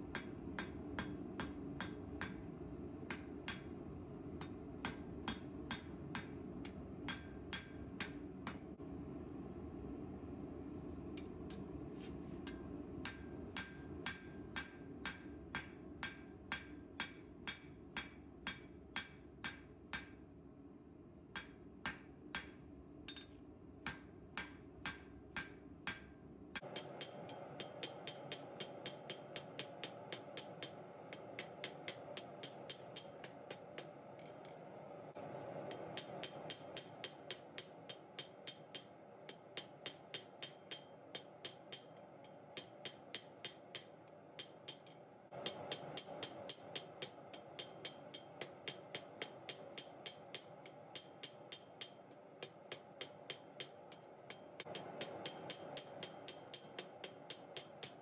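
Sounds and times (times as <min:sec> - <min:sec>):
hammer striking steel on anvil: 0:00.1 - 0:02.4, 0:03.1 - 0:03.8, 0:04.4 - 0:08.7, 0:12.5 - 0:20.2, 0:21.4 - 0:34.7, 0:35.3 - 0:58.0.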